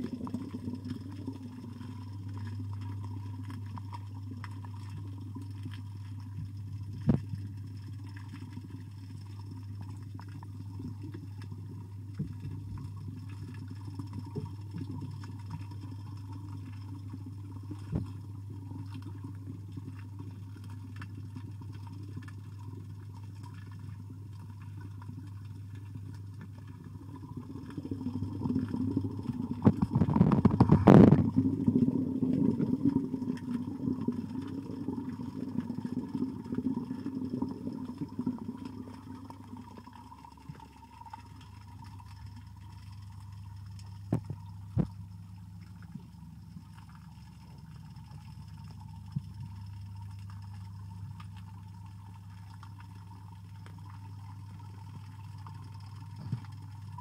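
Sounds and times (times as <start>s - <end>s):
low underwater hum: 0.0s - 57.0s.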